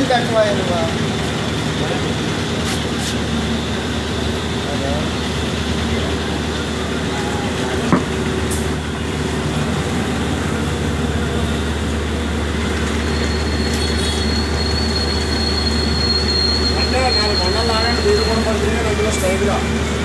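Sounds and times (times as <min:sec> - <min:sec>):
street noise: 0:00.0 - 0:20.0.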